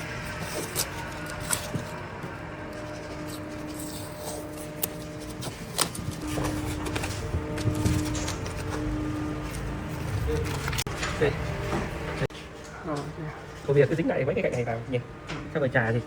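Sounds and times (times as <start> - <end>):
faint broken hum: 0.0 - 16.0.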